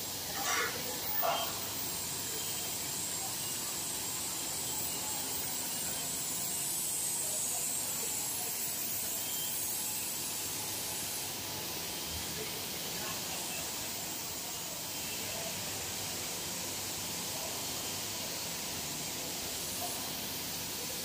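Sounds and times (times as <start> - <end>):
factory machinery hiss: 0.0 - 21.0.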